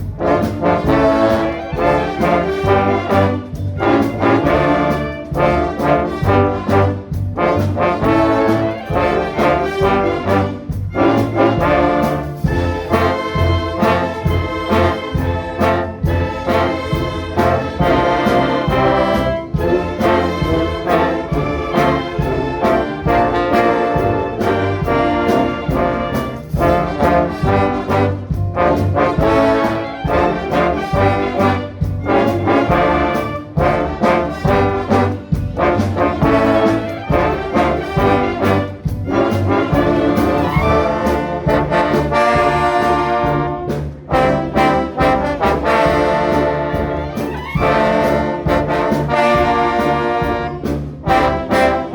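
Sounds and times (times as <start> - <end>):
orchestra with brass playing: 0.0 - 51.9.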